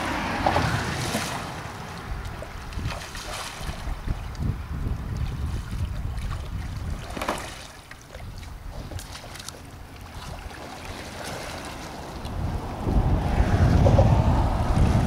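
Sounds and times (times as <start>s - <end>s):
water splashing around kayak: 0.0s - 15.0s
wind rumble on microphone: 0.0s - 15.0s.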